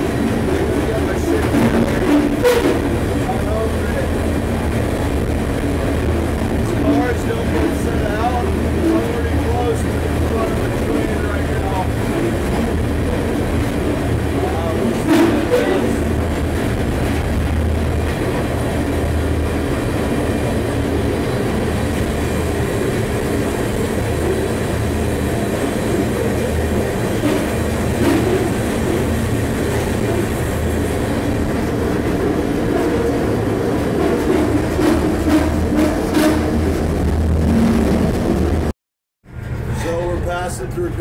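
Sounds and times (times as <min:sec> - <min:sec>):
train car rattling: 0:00.0 - 0:38.7
train wheels rumbling on rail: 0:00.0 - 0:41.0.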